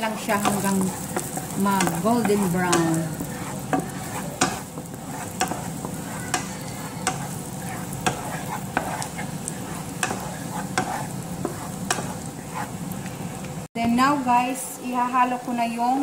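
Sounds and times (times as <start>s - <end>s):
wooden spatula scraping pan: 0.0s - 13.1s
garlic sizzling in butter: 0.0s - 13.7s.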